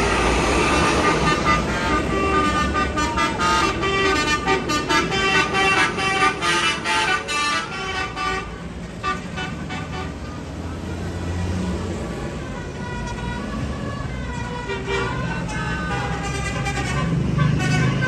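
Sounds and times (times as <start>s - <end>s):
musical bus horn melody: 0.0s - 11.4s, 12.2s - 18.0s
bus engine rumble: 0.0s - 18.0s.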